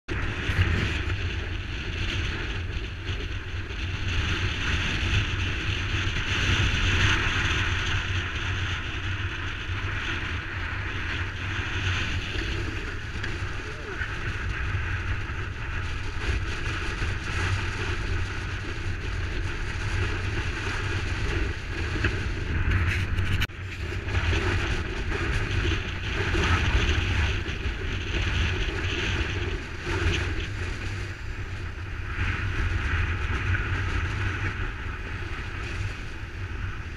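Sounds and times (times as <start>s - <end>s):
strong wind buffeting microphone: 0.1s - 36.9s.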